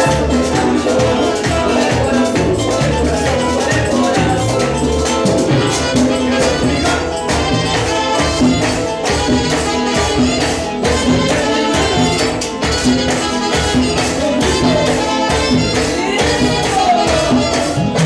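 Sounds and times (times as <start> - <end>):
live band playing: 0.0 - 18.0
people singing: 0.0 - 18.0.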